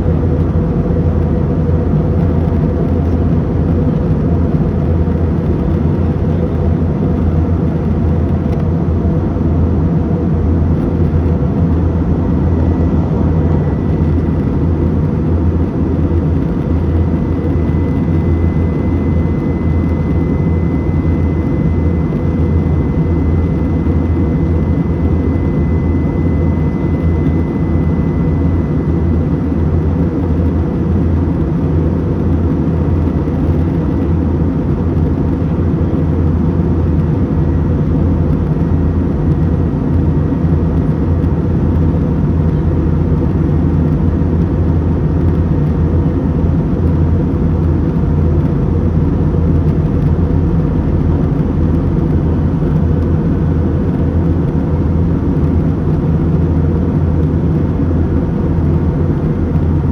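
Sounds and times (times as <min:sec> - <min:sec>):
airliner cabin drone: 0:00.0 - 0:59.9
faint high whine: 0:00.0 - 0:59.9.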